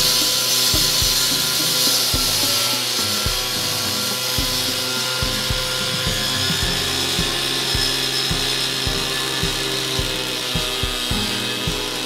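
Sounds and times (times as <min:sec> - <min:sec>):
background music beat: 0:00.0 - 0:12.0
cut-off saw grinding: 0:00.0 - 0:12.0.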